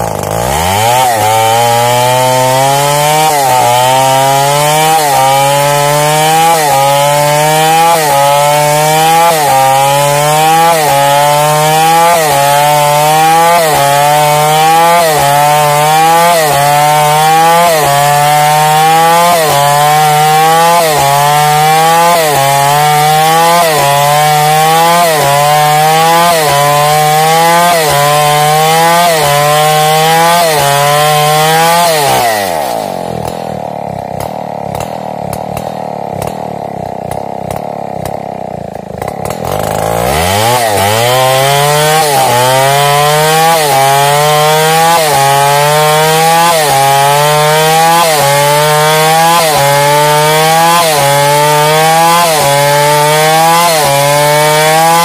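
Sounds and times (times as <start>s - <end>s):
chainsaw cutting timber: 0.0s - 55.0s
chainsaw idling: 0.0s - 55.0s.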